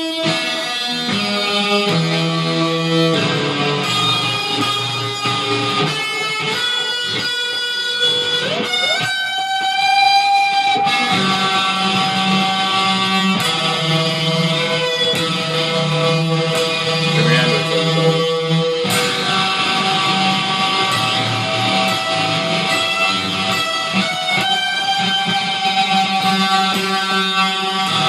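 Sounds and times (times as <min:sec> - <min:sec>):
electric guitar melody: 0:00.0 - 0:28.0.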